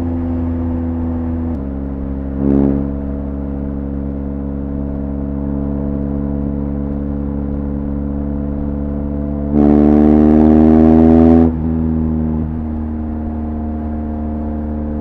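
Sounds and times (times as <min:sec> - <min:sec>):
motorcycle engine drone: 0:00.0 - 0:15.0.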